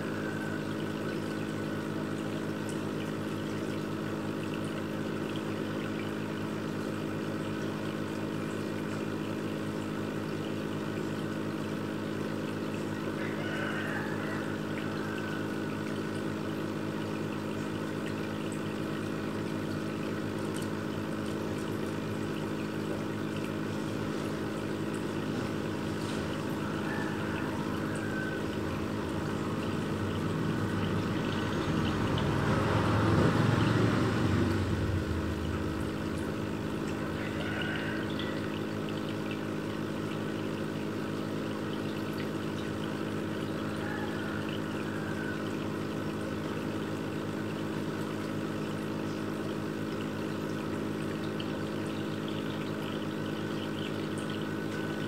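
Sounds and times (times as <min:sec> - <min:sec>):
aquarium pump humming: 0:00.0 - 0:55.0
water trickling: 0:00.0 - 0:55.0.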